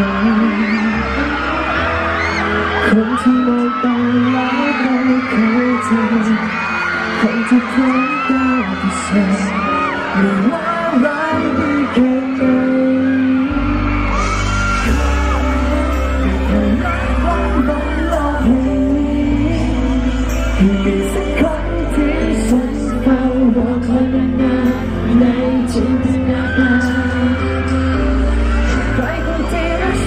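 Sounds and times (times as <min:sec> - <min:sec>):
live pop band: 0:00.0 - 0:30.0
man singing into a microphone: 0:00.0 - 0:30.0.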